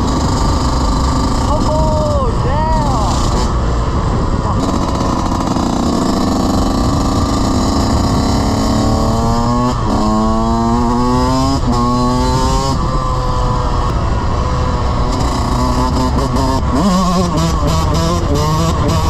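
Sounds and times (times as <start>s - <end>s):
vehicle engine accelerating: 2.8s - 19.0s.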